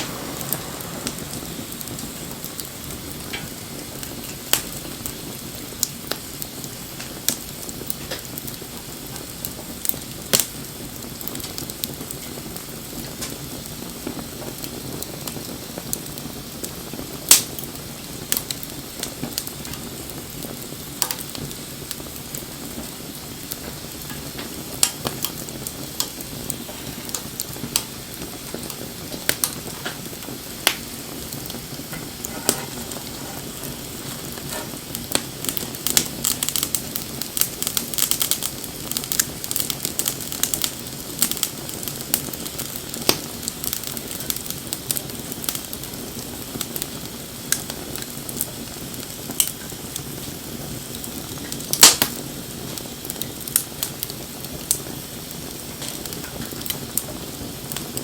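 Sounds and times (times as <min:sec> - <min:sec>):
bonfire hiss: 0:00.0 - 0:58.0
fire crackles and pops: 0:00.0 - 0:58.0
loud snap of fire: 0:00.0 - 0:58.0.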